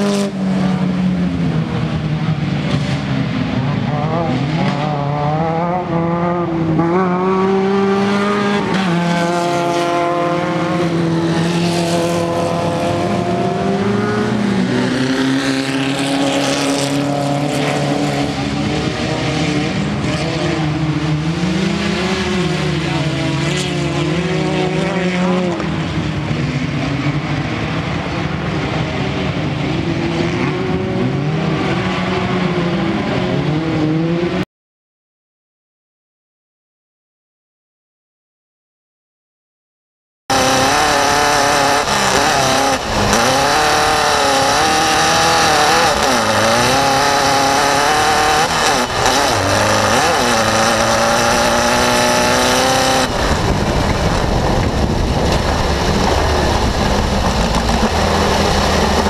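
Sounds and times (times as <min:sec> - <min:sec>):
buggy engine revving: 0:00.0 - 0:34.4, 0:40.3 - 0:59.0.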